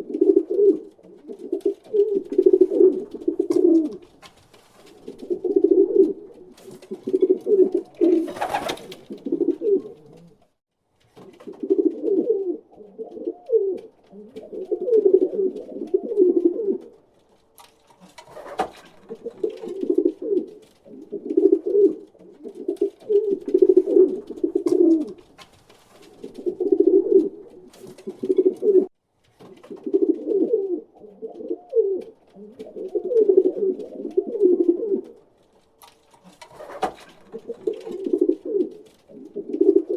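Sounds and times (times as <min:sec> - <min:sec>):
pigeon cooing: 0:00.0 - 0:04.1, 0:04.9 - 0:10.5, 0:11.4 - 0:17.0, 0:18.3 - 0:25.2, 0:26.1 - 0:28.9, 0:29.7 - 0:35.2, 0:36.2 - 0:39.9.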